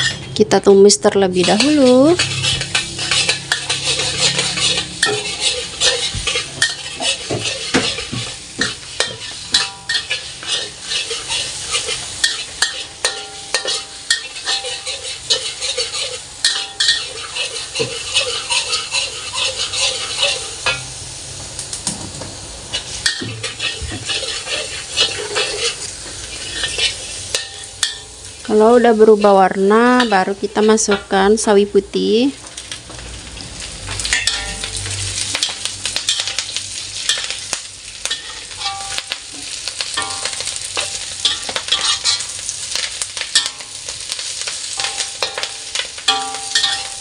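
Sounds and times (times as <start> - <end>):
metal spatula scraping wok: 0.0 - 21.2, 22.6 - 31.5, 33.9 - 47.0
garlic sizzling in oil: 0.0 - 47.0.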